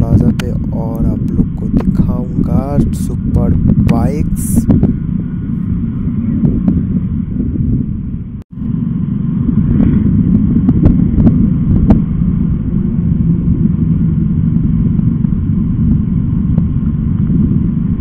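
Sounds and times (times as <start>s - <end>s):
motorcycle engine rumble: 0.0s - 18.0s
wind on microphone: 0.0s - 18.0s.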